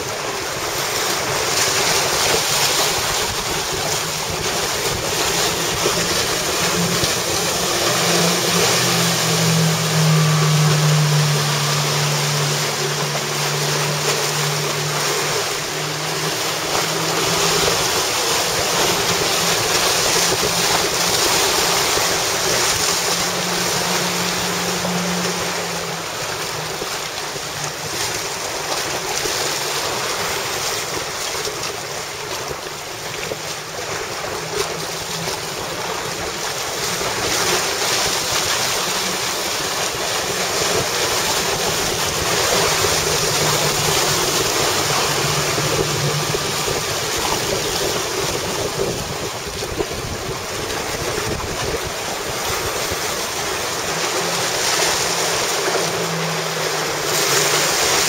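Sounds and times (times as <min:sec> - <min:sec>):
faint engine hum: 0:00.0 - 0:58.0
water rushing and splashing: 0:00.0 - 0:58.0
wind buffeting microphone: 0:00.0 - 0:58.0.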